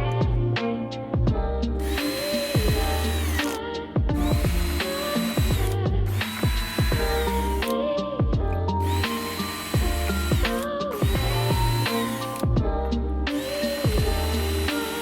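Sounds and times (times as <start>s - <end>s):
electronic synth music: 1.7s - 15.0s.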